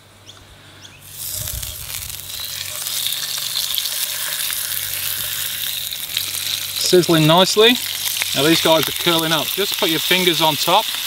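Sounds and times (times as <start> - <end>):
fish sizzling in a frying pan: 1.0 - 11.0.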